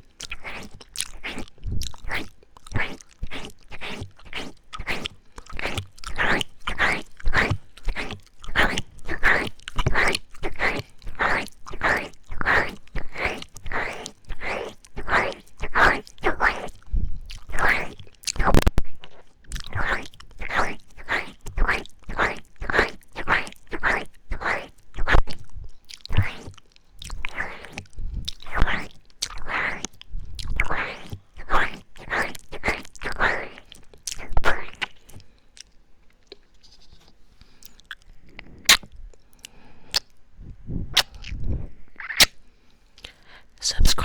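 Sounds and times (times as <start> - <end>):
wet mouth smacking and licking: 0.2 - 36.5, 37.6 - 40.2, 41.0 - 41.4, 42.0 - 42.4.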